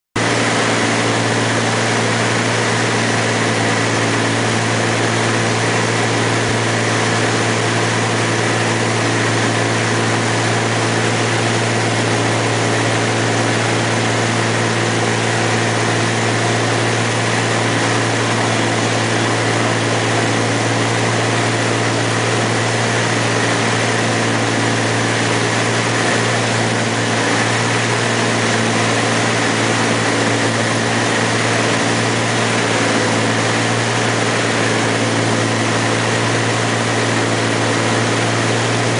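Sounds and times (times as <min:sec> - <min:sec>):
aircraft engine droning in cabin: 0:00.2 - 0:38.9.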